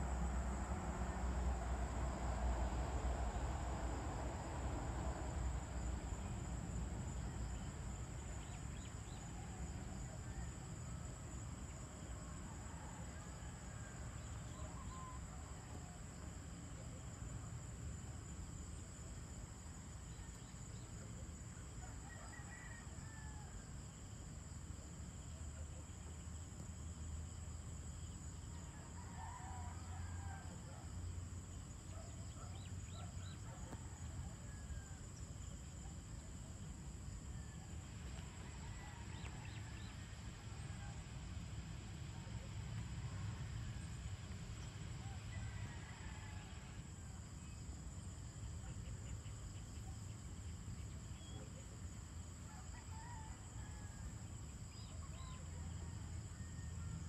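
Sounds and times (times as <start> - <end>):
high insect hum: 0.0 - 57.0.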